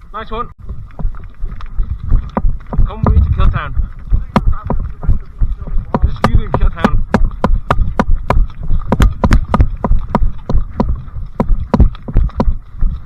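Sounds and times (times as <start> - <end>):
low wind rumble: 0.0 - 13.0
footsteps with gear knocking: 0.6 - 13.0.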